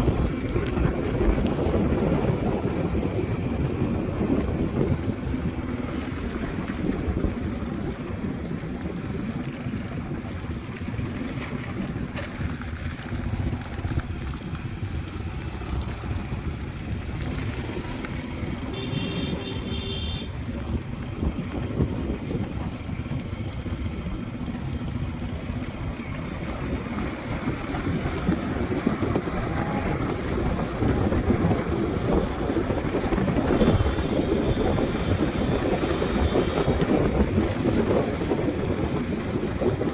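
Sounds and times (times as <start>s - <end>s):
motorbike engine and wind noise: 0.0s - 39.9s.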